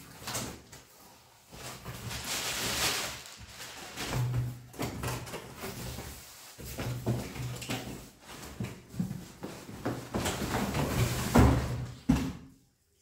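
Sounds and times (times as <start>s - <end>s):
cardboard rustling and scraping: 0.1s - 12.0s.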